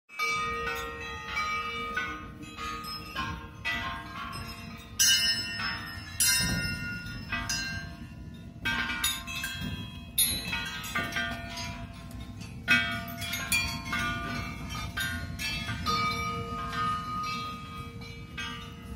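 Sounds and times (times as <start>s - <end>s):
struck metal percussion ringing: 0.2s - 18.9s.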